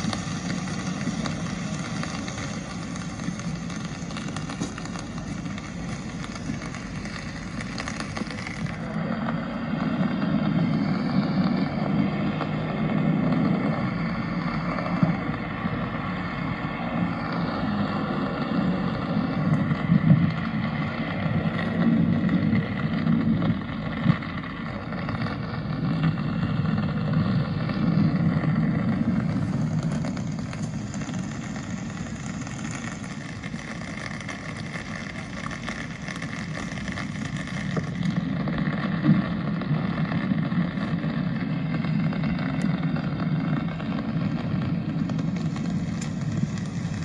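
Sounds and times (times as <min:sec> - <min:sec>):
motor vehicle engine: 0:00.0 - 0:47.0.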